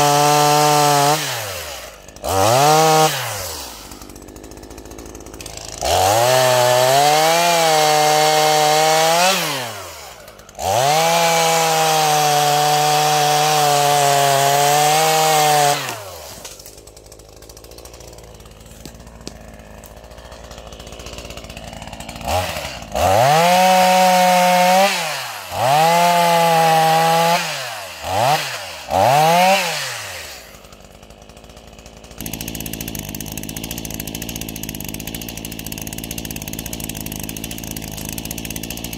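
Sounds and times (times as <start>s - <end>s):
chainsaw idling: 0.0s - 38.9s
chainsaw revving: 0.0s - 38.9s.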